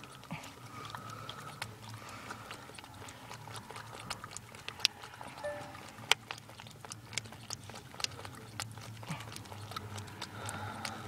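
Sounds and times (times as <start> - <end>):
raccoon drinking water clicks: 0.0 - 11.0.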